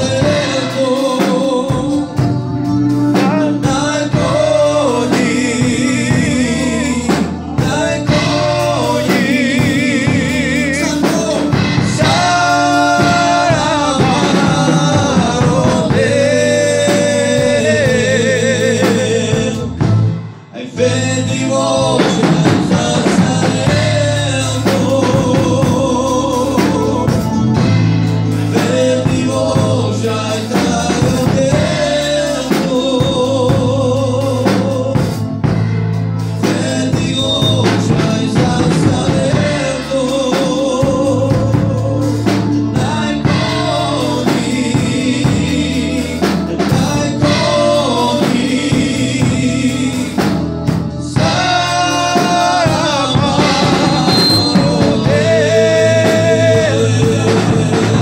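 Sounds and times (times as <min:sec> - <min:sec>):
man singing into a microphone: 0:00.0 - 0:35.5, 0:36.3 - 0:58.0
bass and drum beat: 0:00.0 - 0:58.0
electronic keyboard: 0:00.0 - 0:58.0.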